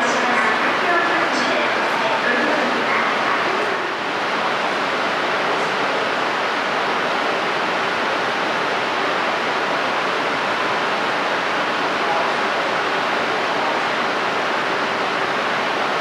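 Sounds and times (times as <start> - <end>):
train rushing noise: 0.0 - 16.0.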